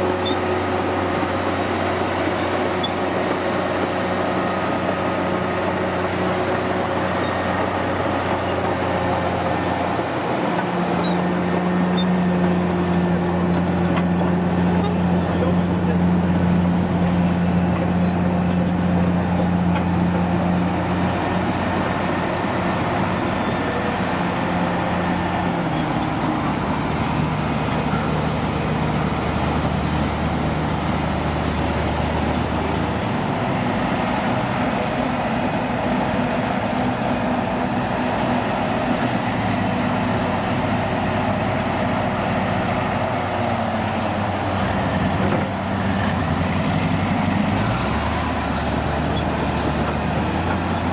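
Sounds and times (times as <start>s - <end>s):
diesel engines droning: 0.0s - 50.9s.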